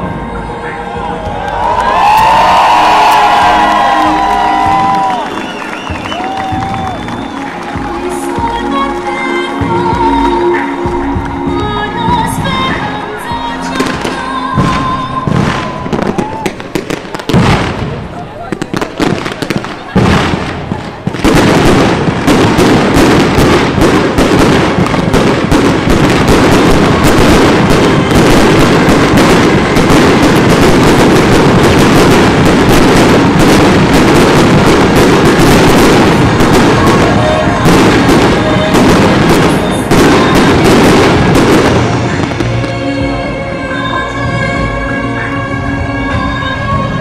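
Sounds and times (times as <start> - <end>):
fireworks bursting: 1.5 - 44.0.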